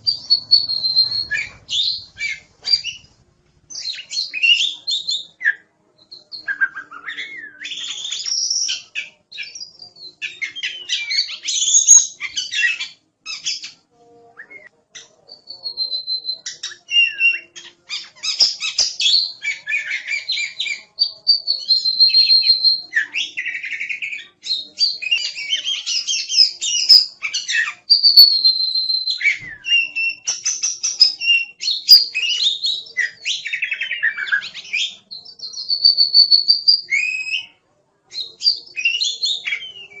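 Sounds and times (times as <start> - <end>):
songbird whistles and trills: 0.0 - 13.8, 14.4 - 40.0.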